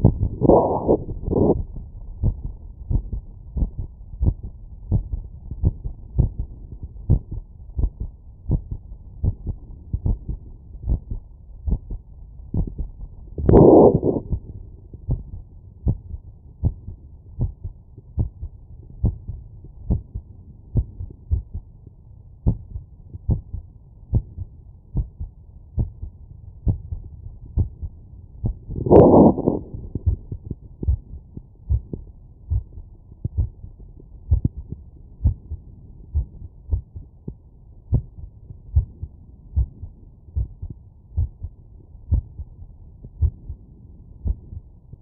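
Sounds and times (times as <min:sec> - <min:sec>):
heartbeat through stethoscope: 0:00.0 - 0:45.0.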